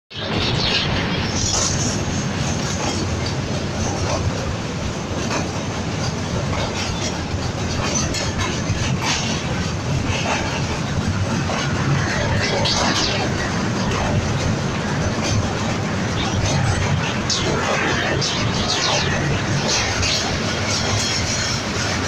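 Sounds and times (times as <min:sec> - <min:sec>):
train wheels rumbling on rails: 0:00.1 - 0:22.0
clacks and rattles: 0:00.4 - 0:22.0.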